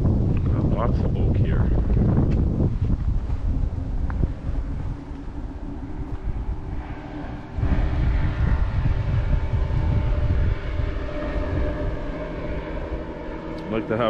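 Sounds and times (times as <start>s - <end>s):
distant engine drone: 0.0s - 14.0s
wind buffeting microphone: 0.0s - 14.0s.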